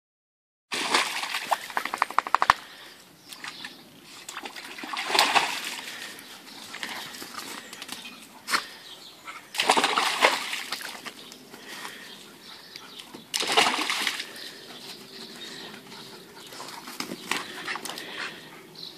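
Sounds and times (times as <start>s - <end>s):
dogs splashing water: 0.7s - 18.9s.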